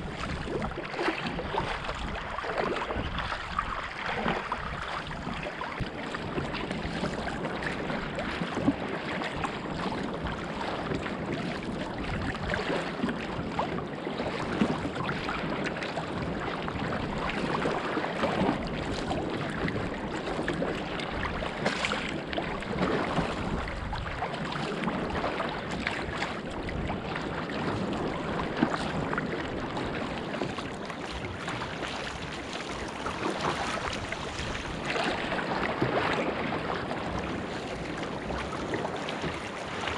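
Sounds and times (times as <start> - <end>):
paddle blades splashing: 0.0 - 39.9
water slapping against hull: 0.0 - 39.9
wind buffeting microphone: 0.0 - 39.9.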